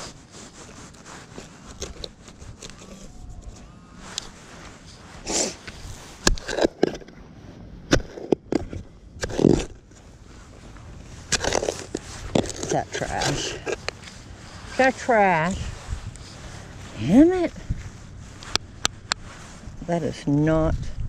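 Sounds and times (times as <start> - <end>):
scraping rustles: 0.0 - 21.0.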